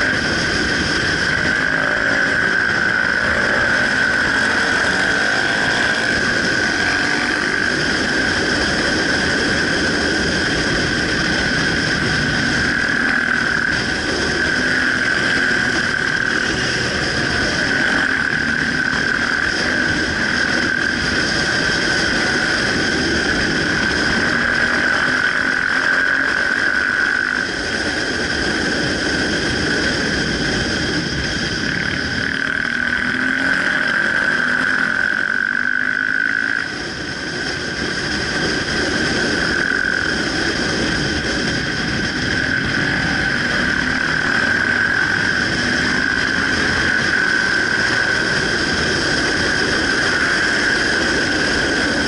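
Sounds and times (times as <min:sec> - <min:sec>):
high-pitched whine: 0:00.0 - 0:52.0
motorcycle engine running: 0:00.0 - 0:52.0.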